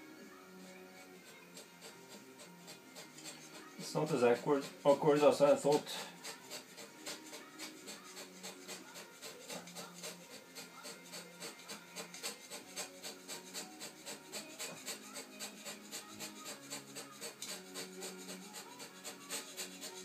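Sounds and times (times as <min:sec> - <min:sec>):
hand scraper rasping on metal: 0:00.6 - 0:20.0.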